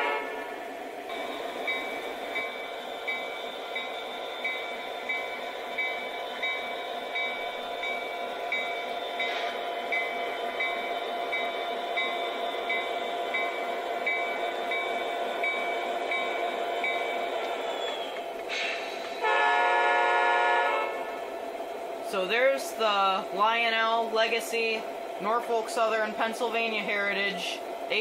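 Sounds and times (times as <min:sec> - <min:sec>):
model locomotive engine drone: 0:00.0 - 0:28.0.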